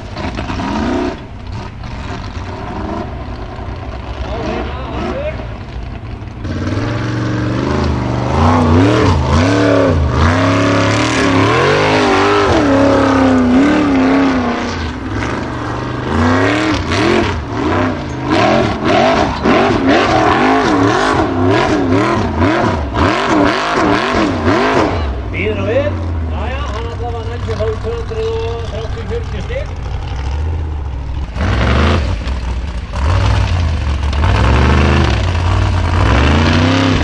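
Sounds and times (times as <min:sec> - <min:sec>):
buggy engine revving hard: 0:00.0 - 0:37.0
wheels spinning on loose ground: 0:00.0 - 0:37.0.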